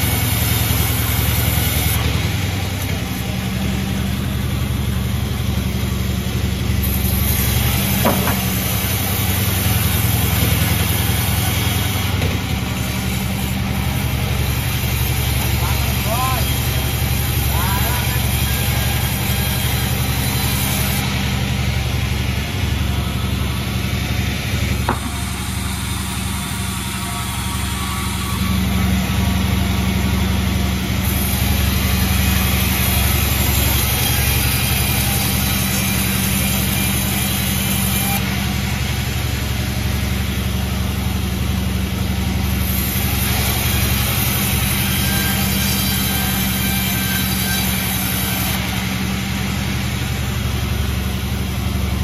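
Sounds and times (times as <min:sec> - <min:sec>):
sawmill machinery droning: 0:00.0 - 0:52.0.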